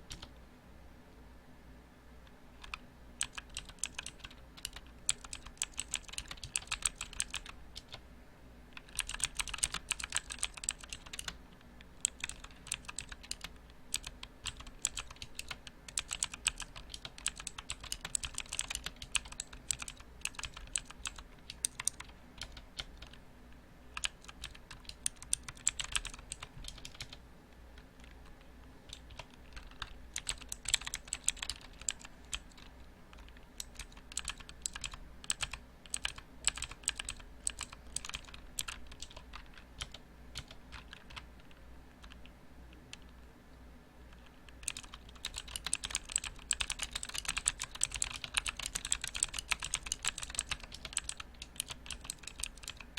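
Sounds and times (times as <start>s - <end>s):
mechanical keyboard clacking: 0.0s - 0.3s, 2.6s - 8.0s, 8.8s - 11.4s, 12.0s - 23.2s, 23.9s - 27.2s, 27.8s - 43.1s, 44.1s - 52.9s.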